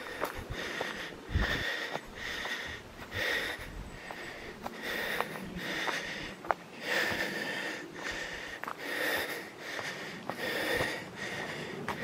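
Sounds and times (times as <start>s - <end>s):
footsteps on a trail: 0.0s - 12.0s
person breathing heavily: 0.0s - 12.0s.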